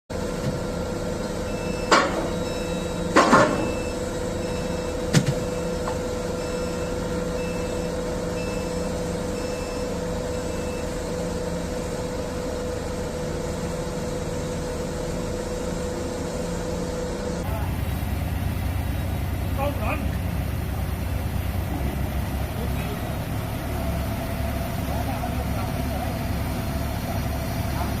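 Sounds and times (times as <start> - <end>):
crane engine whining: 0.2 - 28.0.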